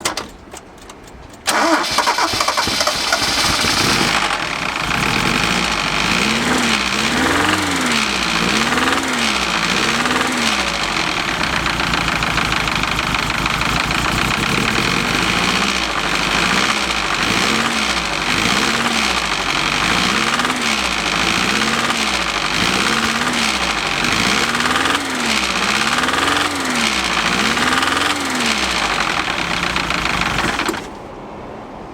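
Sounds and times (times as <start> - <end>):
car engine starting and running: 0.0 - 31.2.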